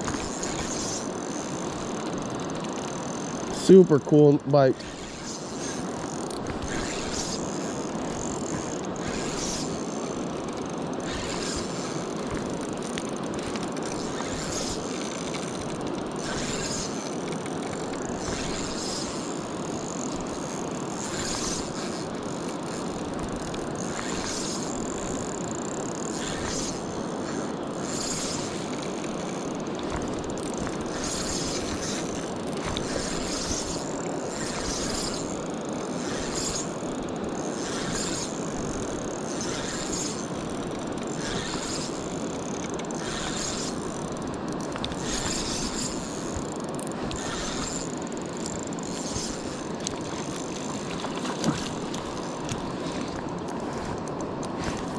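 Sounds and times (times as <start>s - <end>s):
fishing reel ratcheting whir: 0.0s - 54.9s.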